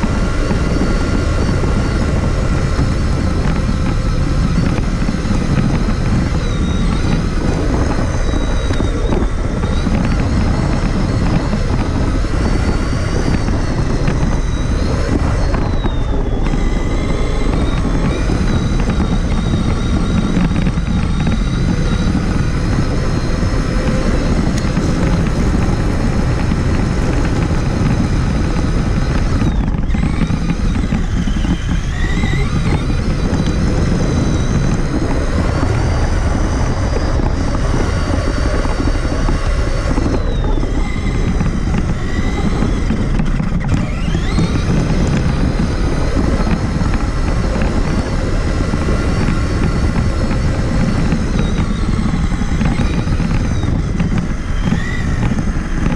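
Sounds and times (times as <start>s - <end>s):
chassis and tyres rattling: 0.0s - 55.9s
electric motor whine: 0.0s - 55.9s.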